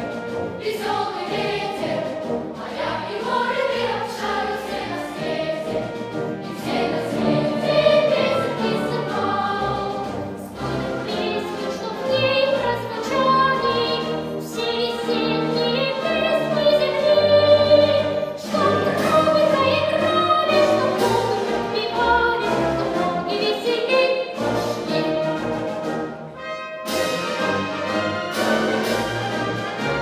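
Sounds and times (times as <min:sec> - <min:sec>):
children's choir singing: 0:00.0 - 0:30.0
orchestral accompaniment: 0:00.0 - 0:30.0.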